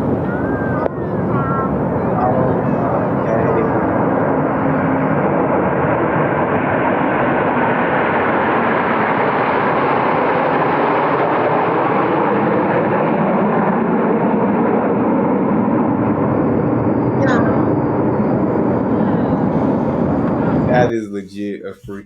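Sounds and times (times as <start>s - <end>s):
military aircraft flying over: 0.0s - 20.9s.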